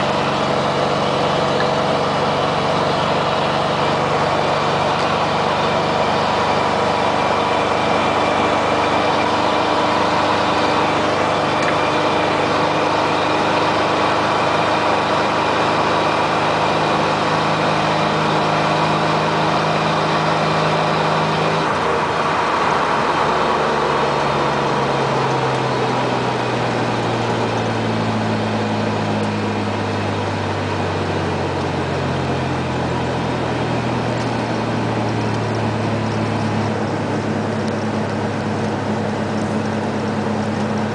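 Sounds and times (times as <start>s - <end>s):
truck exhaust drone: 0.0s - 40.9s.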